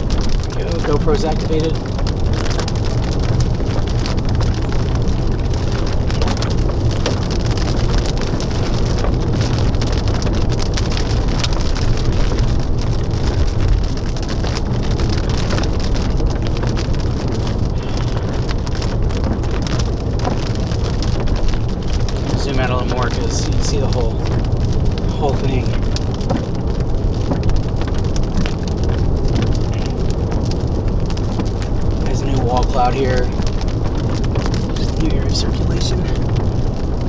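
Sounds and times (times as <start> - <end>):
rain drops ticking on windshield: 0.0 - 37.0
steady low rumble: 0.0 - 37.0.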